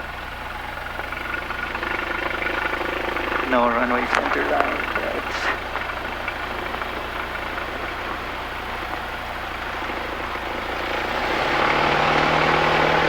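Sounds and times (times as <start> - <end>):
piston engine and propeller: 0.0 - 13.0.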